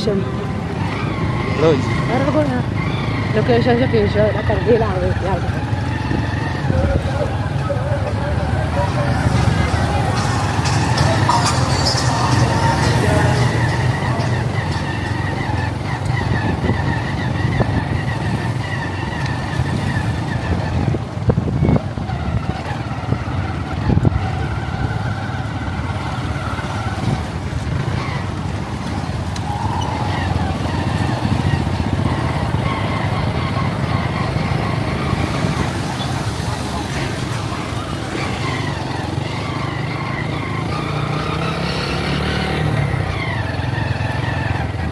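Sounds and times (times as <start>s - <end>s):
motorcycle running: 0.0s - 44.9s
road and wind noise: 0.0s - 44.9s.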